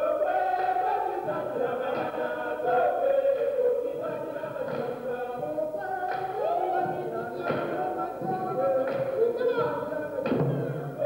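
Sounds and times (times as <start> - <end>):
group singing held notes: 0.0 - 11.0.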